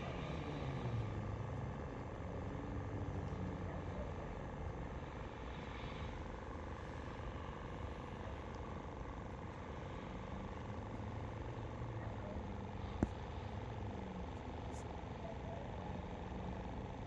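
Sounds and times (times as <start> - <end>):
engine-like hum: 0.0 - 17.0.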